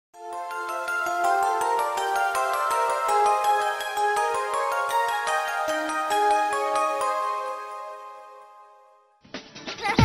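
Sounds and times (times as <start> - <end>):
intro jingle music: 0.2 - 9.2.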